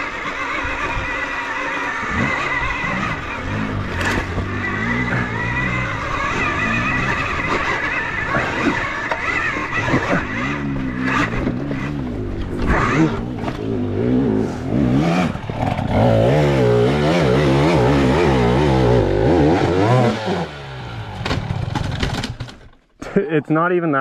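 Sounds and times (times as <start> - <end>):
dirt bike engine revving: 0.0 - 22.6.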